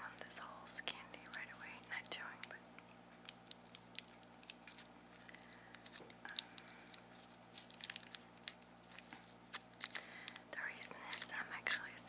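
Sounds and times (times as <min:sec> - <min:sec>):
candy wrapper crackling: 0:00.2 - 0:12.0.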